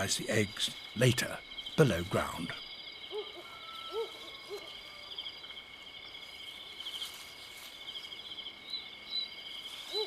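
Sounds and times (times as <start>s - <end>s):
insect chorus trilling: 0.0s - 10.0s.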